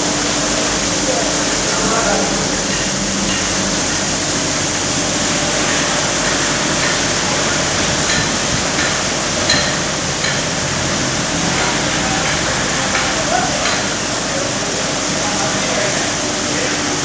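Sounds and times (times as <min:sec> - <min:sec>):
car wash water spray: 0:00.0 - 0:17.0.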